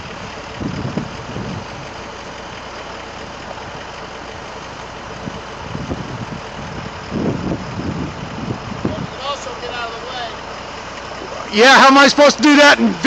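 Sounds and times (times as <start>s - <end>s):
truck engines idling: 0.0s - 13.0s.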